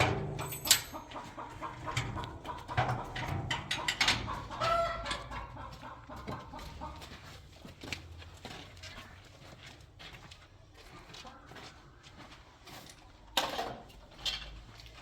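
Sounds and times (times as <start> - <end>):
chickens clucking: 0.0 - 9.3, 10.5 - 15.0.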